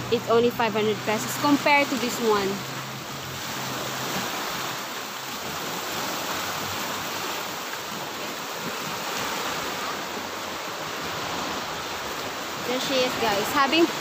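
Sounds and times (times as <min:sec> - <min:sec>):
waves washing onto pebbly shore: 0:00.0 - 0:14.0.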